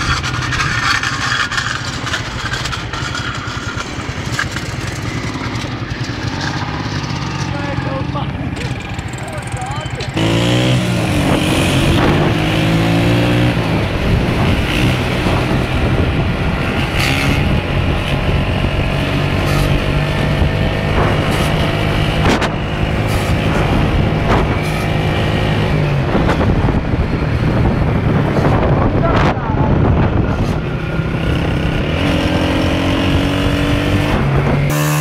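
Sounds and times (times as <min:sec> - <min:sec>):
wind noise: 0:00.0 - 0:07.2, 0:10.2 - 0:35.0
motorcycle engines running: 0:00.0 - 0:35.0.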